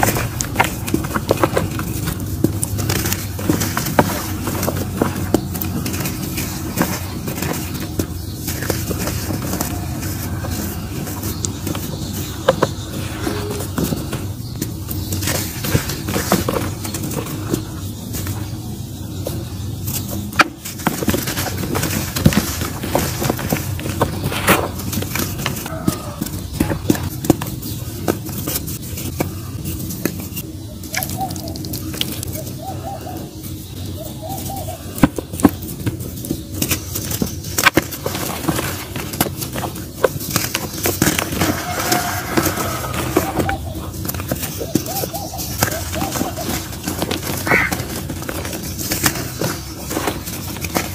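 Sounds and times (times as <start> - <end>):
hands crumbling dried mud: 0.0 - 50.9.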